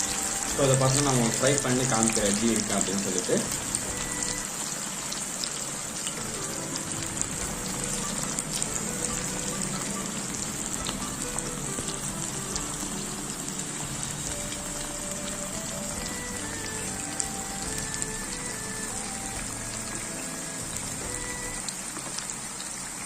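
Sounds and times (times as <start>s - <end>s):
soft background music: 0.0s - 22.4s
chicken sizzling in hot oil: 0.0s - 23.0s.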